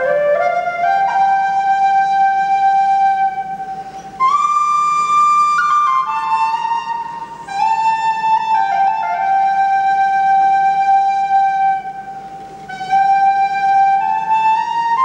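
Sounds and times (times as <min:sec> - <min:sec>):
flute-like wind instrument melody: 0:00.0 - 0:15.0.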